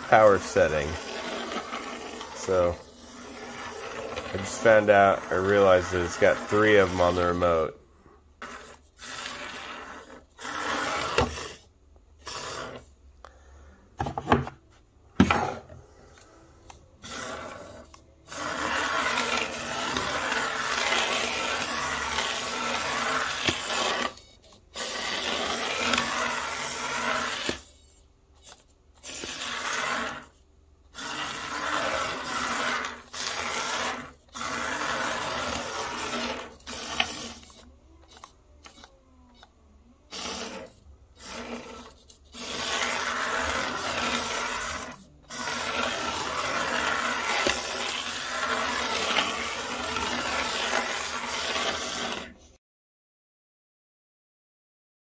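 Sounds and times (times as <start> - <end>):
rc car rasping scrubbing noise: 0.0 - 7.8, 8.4 - 13.0, 15.4 - 52.4.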